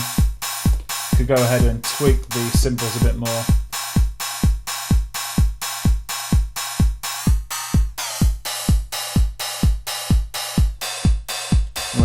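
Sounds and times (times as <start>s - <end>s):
drum machine kick drum: 0.0s - 12.0s.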